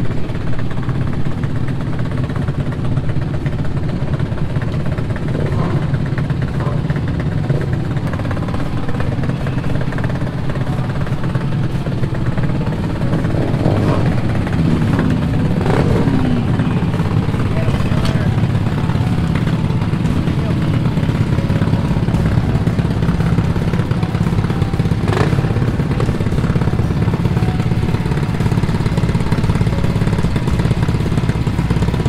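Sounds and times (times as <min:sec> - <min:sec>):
motorcycle engines idling: 0:00.0 - 0:32.0.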